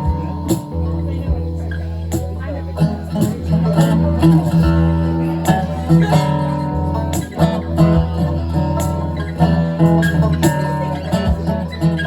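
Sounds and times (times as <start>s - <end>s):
strummed acoustic guitar: 0.0s - 12.0s
sustained low notes: 0.0s - 12.0s.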